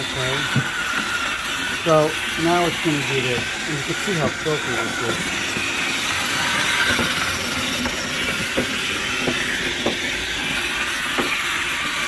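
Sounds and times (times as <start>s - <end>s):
grill-cleaning robot whirring scrape: 0.0s - 12.0s.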